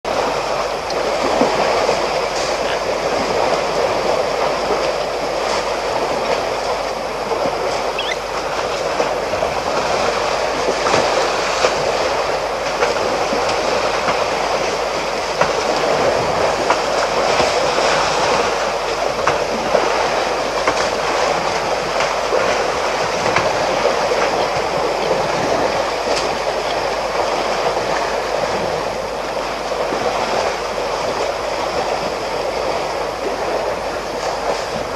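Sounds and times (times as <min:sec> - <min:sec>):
water sloshing and splashing: 0:00.1 - 0:34.9.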